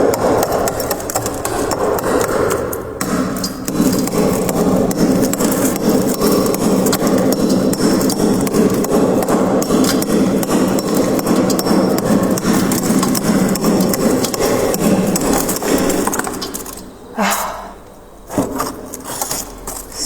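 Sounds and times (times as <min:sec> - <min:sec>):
scraper scraping freezer frost: 0:03.2 - 0:17.6, 0:18.3 - 0:20.0.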